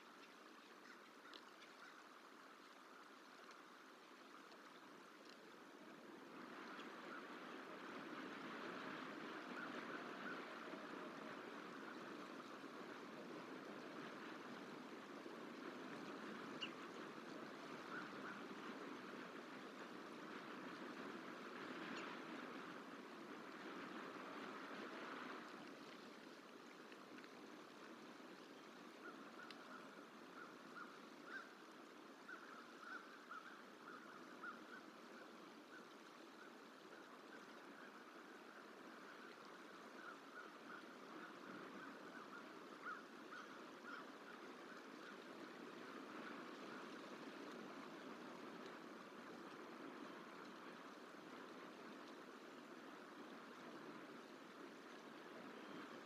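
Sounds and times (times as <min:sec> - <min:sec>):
faint steady rushing noise: 0:00.0 - 0:56.0
stream water flowing: 0:00.0 - 0:56.0.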